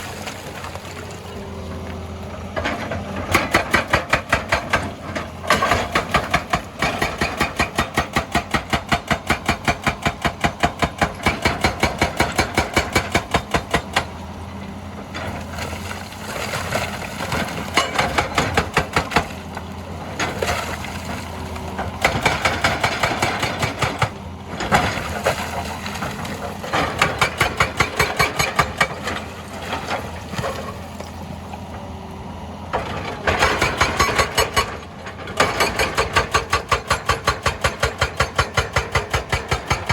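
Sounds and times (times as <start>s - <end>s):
diesel engine running: 0.0s - 39.9s
hydraulic breaker hammering rock: 2.6s - 14.2s, 16.6s - 30.8s, 32.7s - 39.9s.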